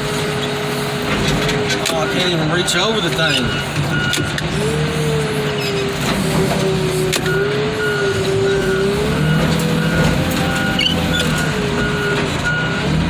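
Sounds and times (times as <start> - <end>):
heavy equipment engine under load: 0.0 - 13.0
hydraulic whine: 0.0 - 13.0.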